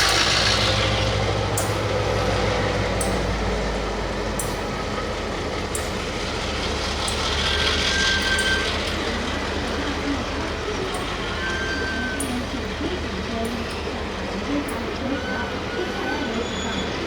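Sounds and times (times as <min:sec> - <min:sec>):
locomotive rumble and hum: 0:00.0 - 0:17.0.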